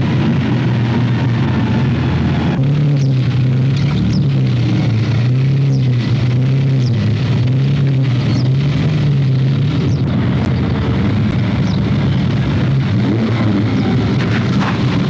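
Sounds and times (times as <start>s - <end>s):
sports car engines at low revs: 0.0s - 15.0s.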